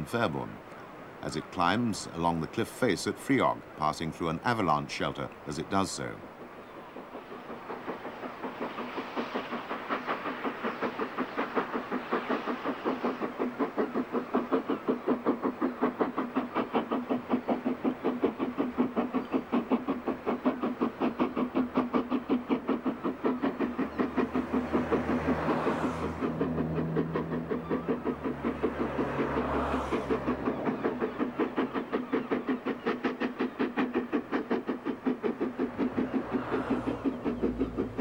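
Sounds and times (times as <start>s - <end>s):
steam locomotive exhaust chuffs: 0.0s - 38.0s.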